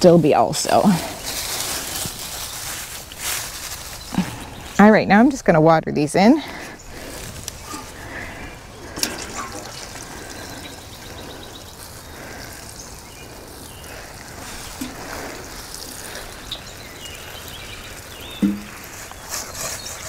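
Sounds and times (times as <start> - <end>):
water sprinkling from watering can: 0.0 - 4.8, 6.6 - 20.0.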